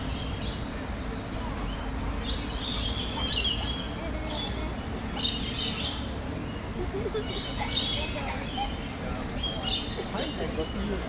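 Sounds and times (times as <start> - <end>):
low background hum: 0.0 - 11.0
small birds chirping: 0.0 - 11.0.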